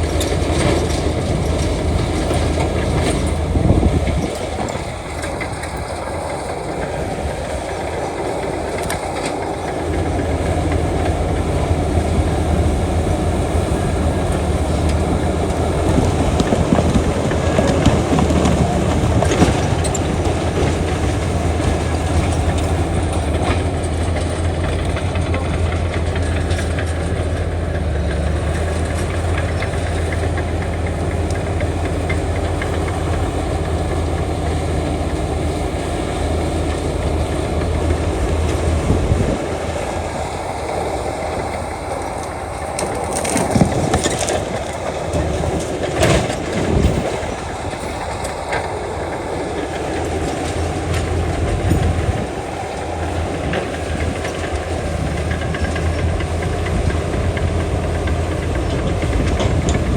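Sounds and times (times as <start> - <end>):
diesel machinery engine drone: 0.0 - 59.9
metal track clatter: 0.0 - 59.9.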